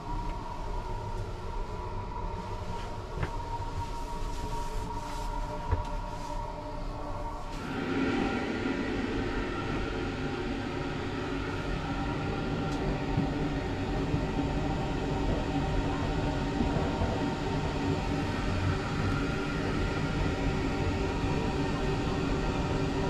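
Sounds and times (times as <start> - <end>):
steady hums: 0.0 - 23.0
train rolling rumble: 0.0 - 23.0.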